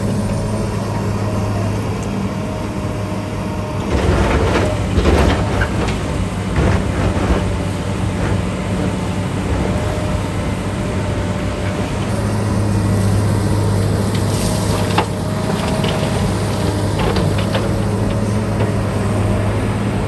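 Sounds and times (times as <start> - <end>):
diesel engine humming: 0.0 - 20.0.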